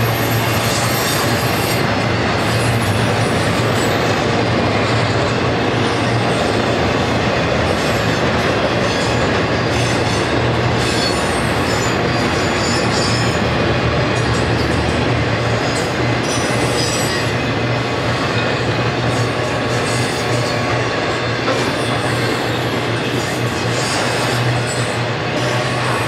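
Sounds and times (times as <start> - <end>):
steel wheels rumbling on rail: 0.0 - 26.0.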